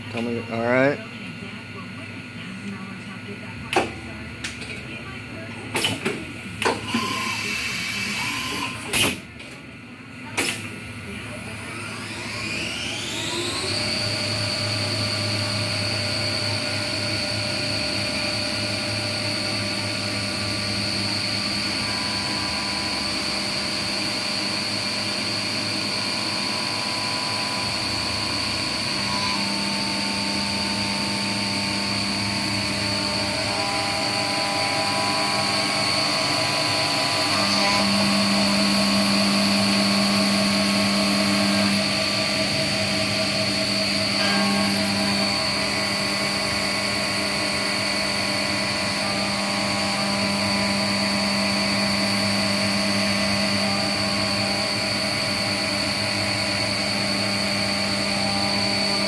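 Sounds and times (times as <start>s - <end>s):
motor hums: 0.0s - 59.0s
milling spindle high whine: 6.4s - 9.2s, 10.7s - 59.0s.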